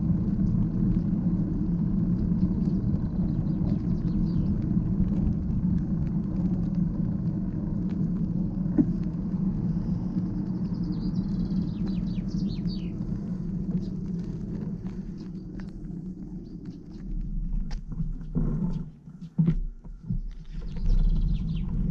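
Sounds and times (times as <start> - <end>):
bicycle tyres on asphalt: 0.0 - 21.9
wind on microphone: 0.0 - 21.9.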